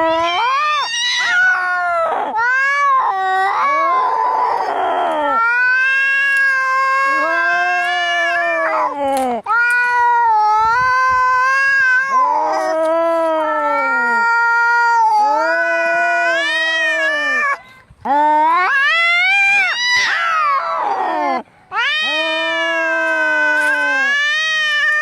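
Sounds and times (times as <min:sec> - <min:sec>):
cats yowling: 0:00.0 - 0:25.0.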